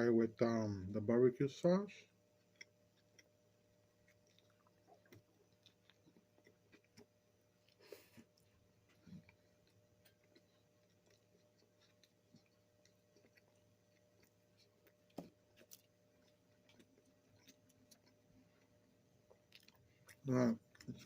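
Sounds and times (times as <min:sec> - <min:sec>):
faint steady hum: 0:00.0 - 0:21.0
chewing and mouth clicks: 0:02.4 - 0:21.0.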